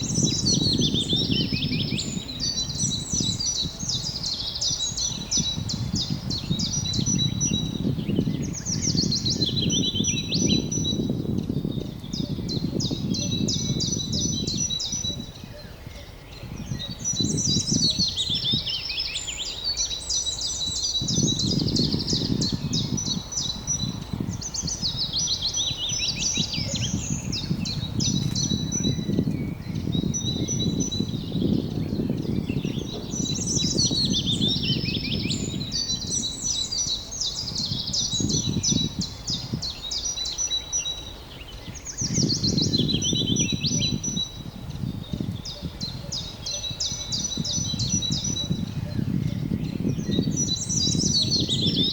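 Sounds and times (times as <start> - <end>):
songbird chirping and trilling: 0.0 - 51.9.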